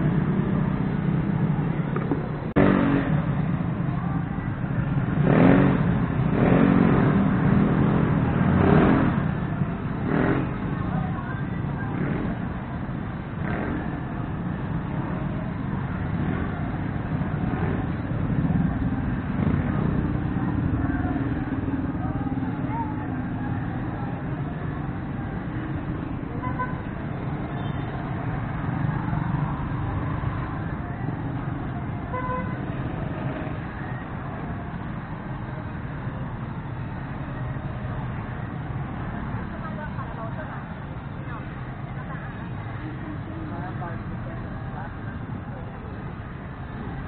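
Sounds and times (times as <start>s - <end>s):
distant voices: 0.0s - 47.0s
street traffic: 0.0s - 47.0s.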